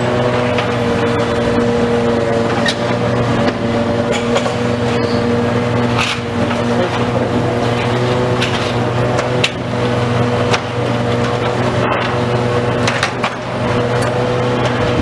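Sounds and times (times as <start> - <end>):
demolition machinery engine: 0.0 - 15.0.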